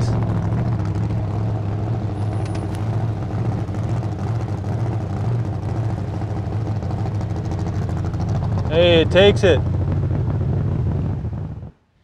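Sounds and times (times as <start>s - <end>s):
van engine running at low revs: 0.0s - 12.0s.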